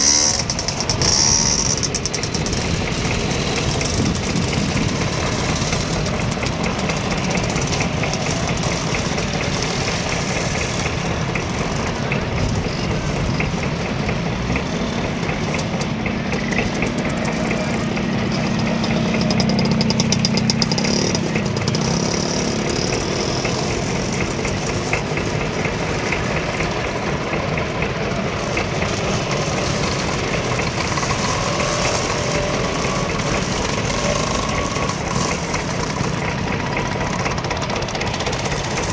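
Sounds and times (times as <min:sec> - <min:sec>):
scooter engines buzzing past: 0:00.0 - 0:38.9.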